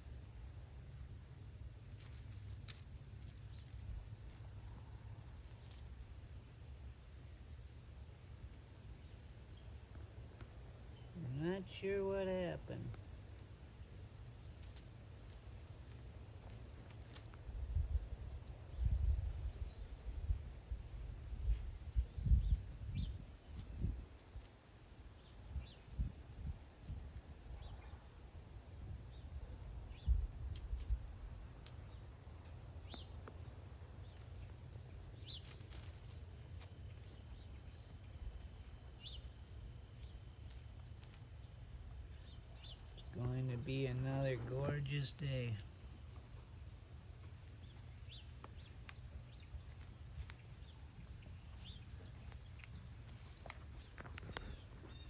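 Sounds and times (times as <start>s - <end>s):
crickets and insects chorus: 0.0s - 55.0s.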